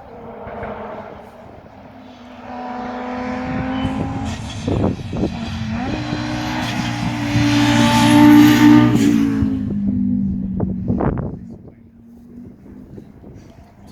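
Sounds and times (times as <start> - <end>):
car engine running: 0.0 - 13.7.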